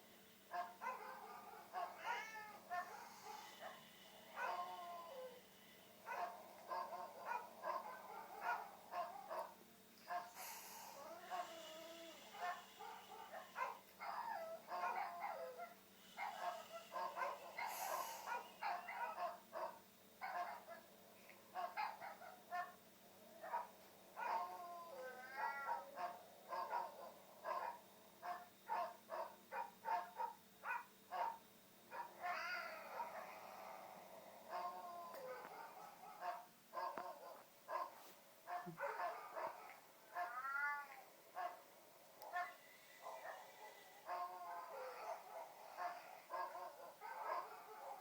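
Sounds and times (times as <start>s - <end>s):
recorded dogs barking through speaker: 0.5s - 48.0s.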